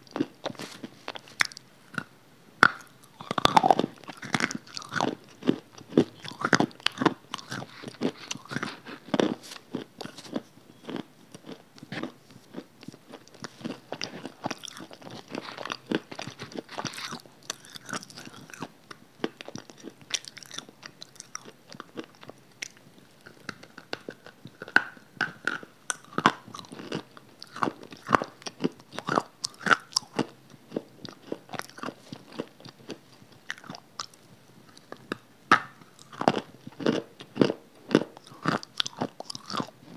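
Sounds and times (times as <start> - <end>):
crunching bites and chewing: 0.1 - 39.9.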